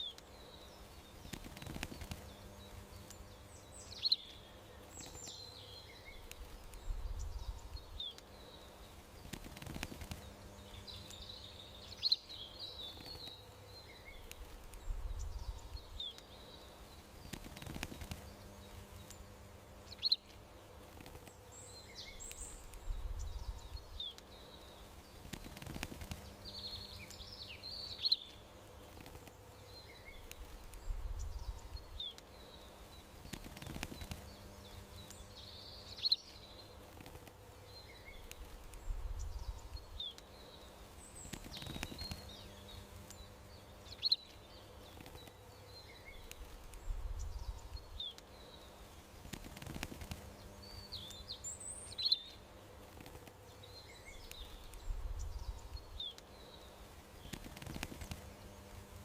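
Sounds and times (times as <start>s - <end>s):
faint steady hum: 0.0s - 59.0s
songbirds chirping: 0.0s - 59.0s.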